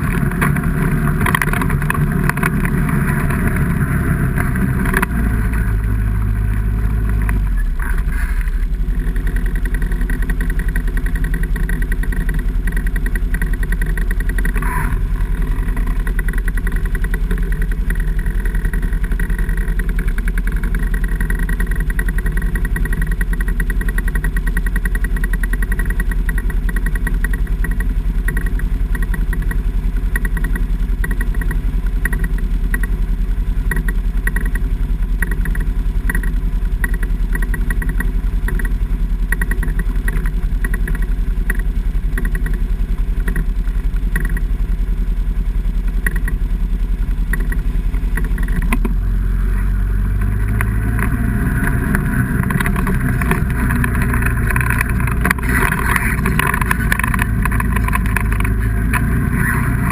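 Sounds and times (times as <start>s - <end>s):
off-road engines running: 0.0s - 59.9s.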